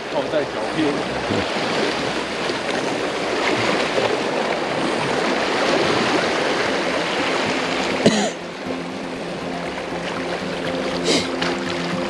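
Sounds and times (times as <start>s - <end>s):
sea water washing over rocks: 0.0s - 12.0s.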